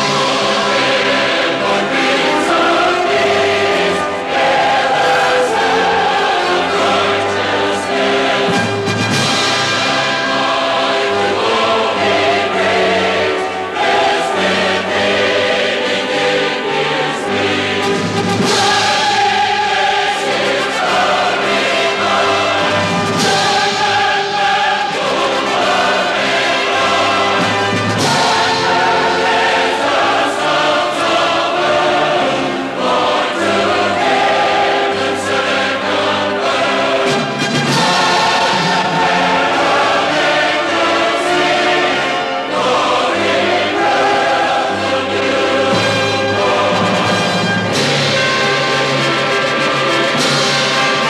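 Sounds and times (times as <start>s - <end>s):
choir singing sustained chords: 0.0s - 51.0s.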